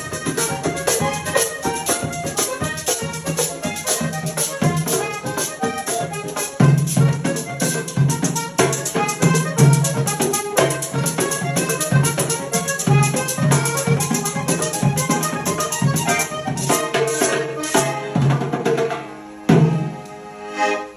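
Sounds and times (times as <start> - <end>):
rattling scraped percussion: 0.0 - 18.0
drum beating steady pattern: 0.0 - 20.0
button accordion: 0.0 - 20.9.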